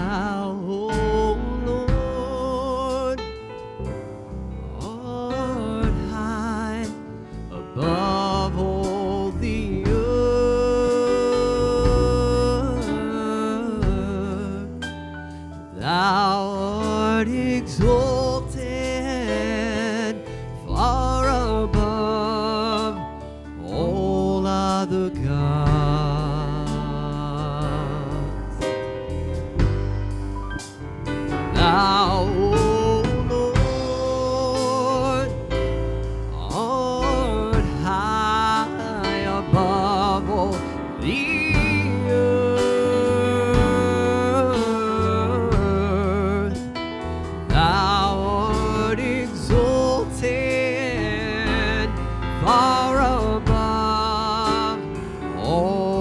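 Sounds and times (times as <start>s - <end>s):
person singing with vibrato: 0.0s - 3.7s, 4.7s - 29.0s, 31.4s - 56.0s.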